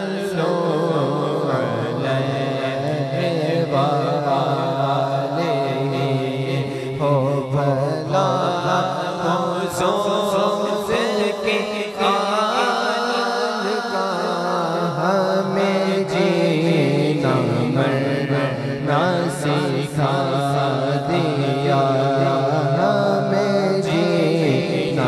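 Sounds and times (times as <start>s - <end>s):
man singing devotional melody: 0.0s - 25.0s.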